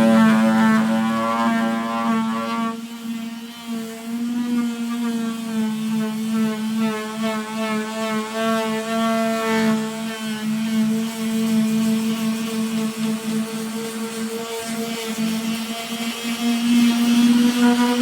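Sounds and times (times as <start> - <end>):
electric sander on metal: 0.0 - 18.0.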